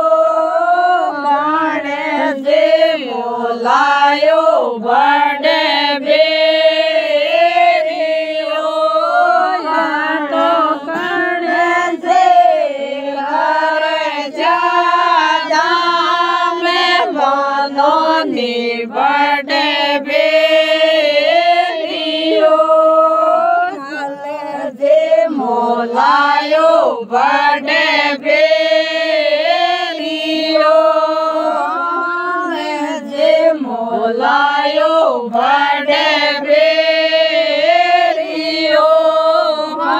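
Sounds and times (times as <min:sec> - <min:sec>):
person singing folk song: 0:00.0 - 0:39.9.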